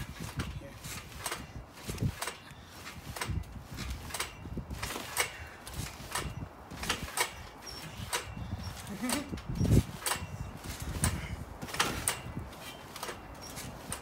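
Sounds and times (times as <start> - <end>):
trampoline thuds and creaks: 0.0 - 14.0.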